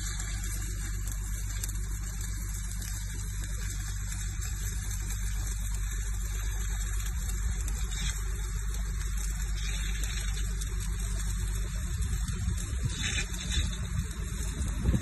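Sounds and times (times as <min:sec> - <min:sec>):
low electrical hum: 0:00.0 - 0:15.0
welding arc crackling and hissing: 0:00.0 - 0:15.0.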